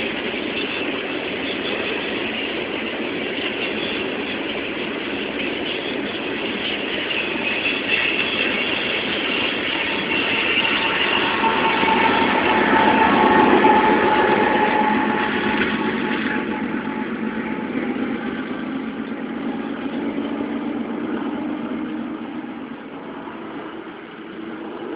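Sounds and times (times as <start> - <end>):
diesel locomotive running: 0.0 - 24.9
freight cars rolling on rails: 0.0 - 24.9.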